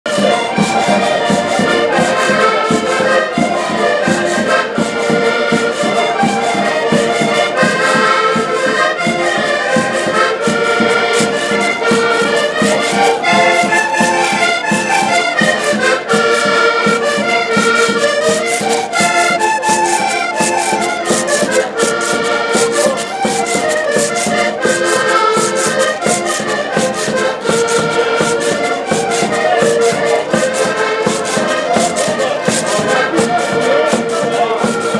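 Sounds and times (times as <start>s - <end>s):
accordions playing folk tune: 0.0s - 34.9s
light percussion: 0.1s - 34.9s.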